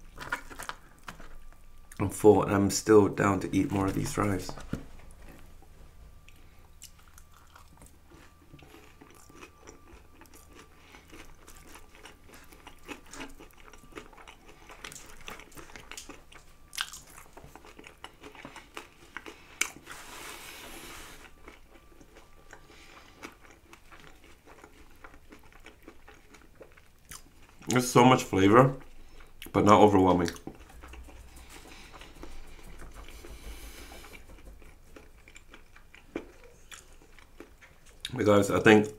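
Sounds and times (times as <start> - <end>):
person chewing crunchy fries: 0.0 - 2.2, 6.2 - 38.9.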